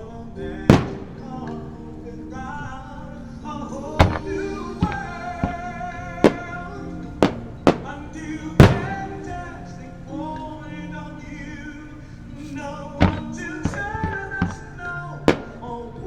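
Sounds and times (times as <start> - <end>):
fireworks bursting: 0.0 - 16.0
pop ballad duet singing: 0.0 - 16.0.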